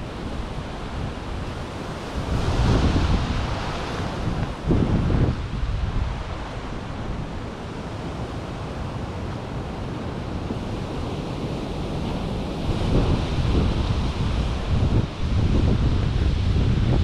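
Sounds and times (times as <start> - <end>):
wind rumble on microphone: 0.0 - 17.0
wind rushing through leaves: 0.0 - 17.0.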